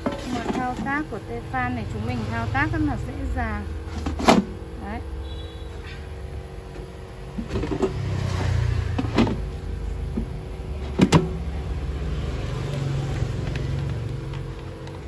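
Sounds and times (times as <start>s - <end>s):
air fryer fan humming: 0.0s - 15.0s.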